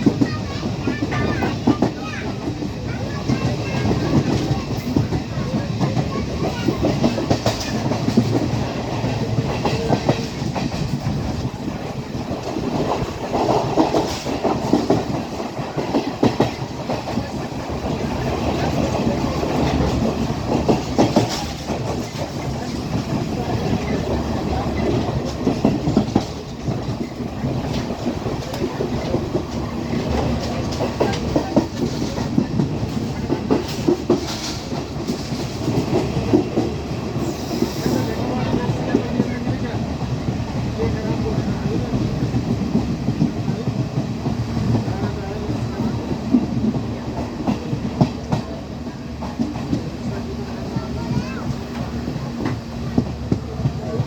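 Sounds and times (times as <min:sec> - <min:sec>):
train running low rumble: 0:00.0 - 0:54.0
wheels clattering over rails: 0:00.0 - 0:54.0.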